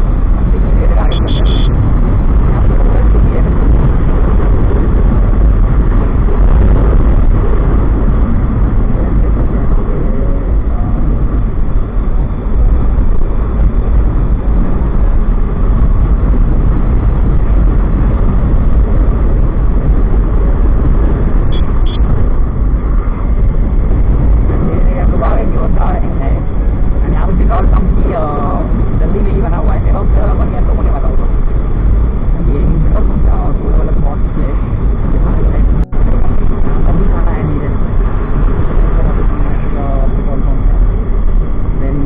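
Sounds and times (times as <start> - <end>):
road and engine noise: 0.0 - 42.0
wind buffeting microphone: 0.0 - 42.0.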